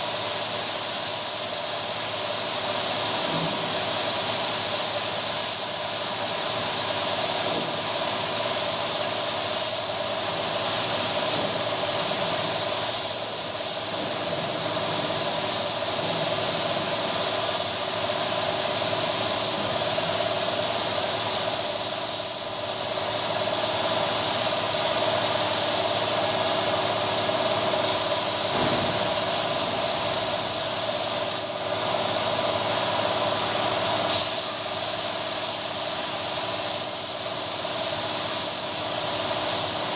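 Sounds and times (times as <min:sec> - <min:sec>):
spray gun hissing: 0:00.0 - 0:26.4, 0:27.8 - 0:31.6, 0:34.1 - 0:39.9.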